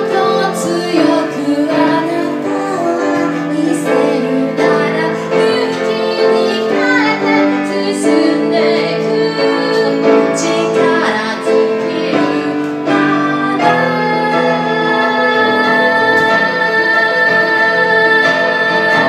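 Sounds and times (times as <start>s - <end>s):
piano chords: 0.0s - 19.0s
woman singing: 0.0s - 19.0s.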